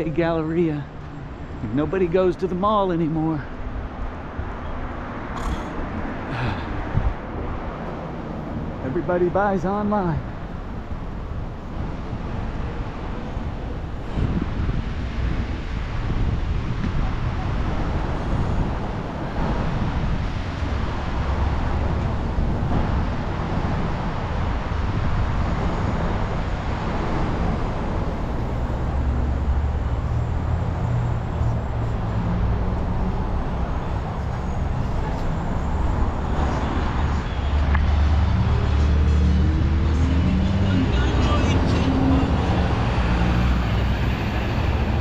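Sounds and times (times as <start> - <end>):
street traffic passing: 0.0 - 45.0.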